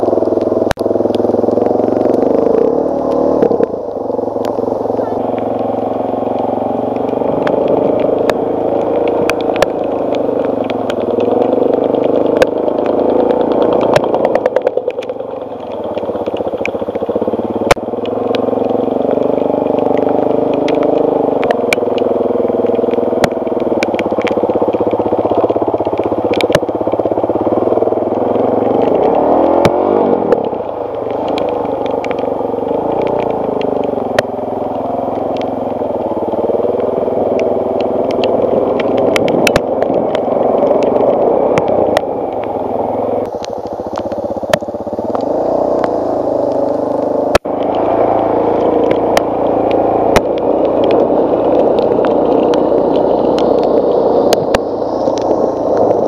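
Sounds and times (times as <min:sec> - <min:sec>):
motorcycle engine revving: 0:00.0 - 0:56.0
sharp clicks and knocks: 0:06.3 - 0:42.5, 0:47.2 - 0:56.0.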